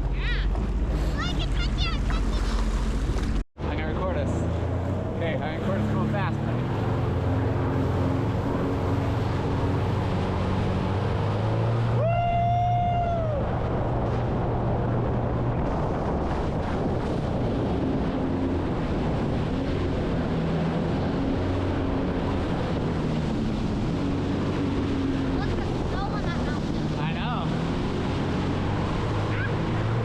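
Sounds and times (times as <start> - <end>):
jet ski engine running: 0.0 - 30.0
wind buffeting microphone: 0.0 - 30.0.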